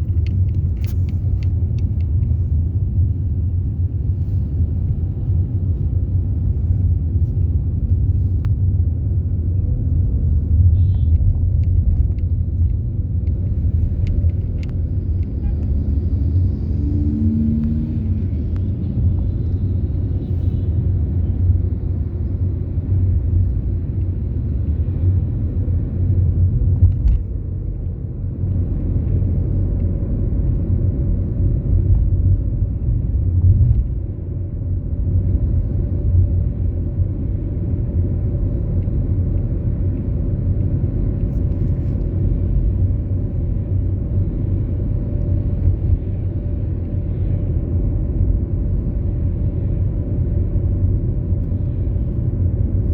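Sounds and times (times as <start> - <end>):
car engine and road rumble: 0.0 - 52.9.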